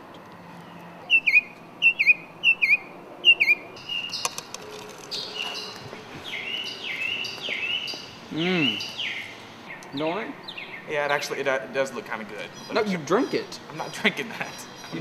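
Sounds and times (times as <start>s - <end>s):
mockingbird singing: 0.7s - 15.0s.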